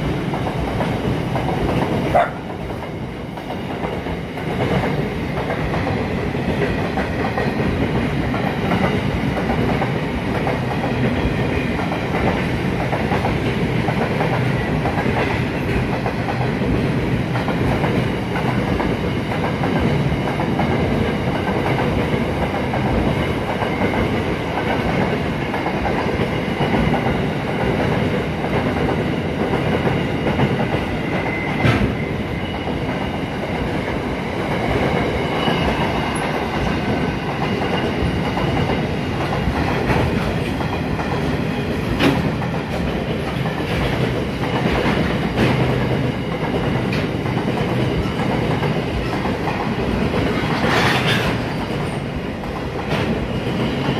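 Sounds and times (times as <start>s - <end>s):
train wheels rumbling over rails: 0.0s - 53.9s.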